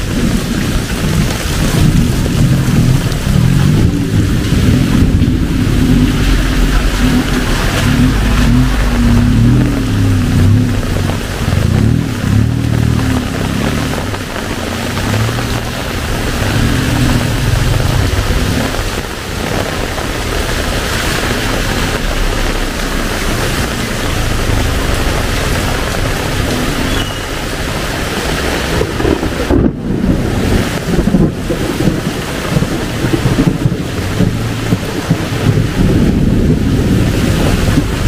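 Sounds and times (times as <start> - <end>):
heavy rain pouring: 0.0 - 38.0
low rumbling buffets: 0.0 - 38.0.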